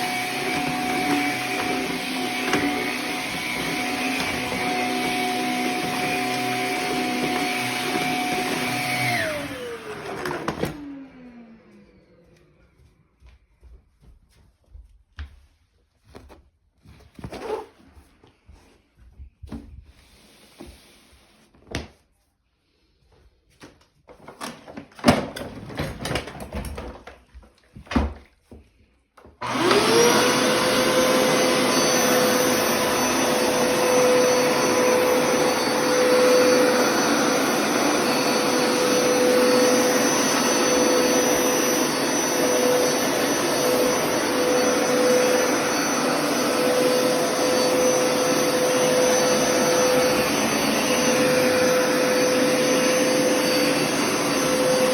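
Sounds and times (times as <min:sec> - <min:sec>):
vacuum cleaner running: 0:00.0 - 0:13.8, 0:19.4 - 0:21.5, 0:24.3 - 0:28.2, 0:29.2 - 0:54.9.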